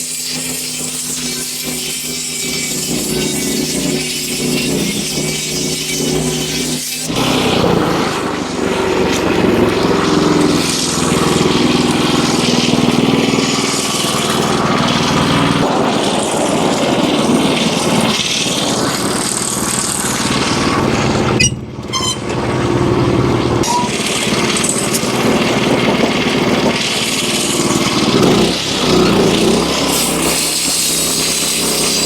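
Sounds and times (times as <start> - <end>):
band blade cutting wood: 0.0 - 22.4, 23.6 - 32.0
sawmill engine running: 0.0 - 32.0.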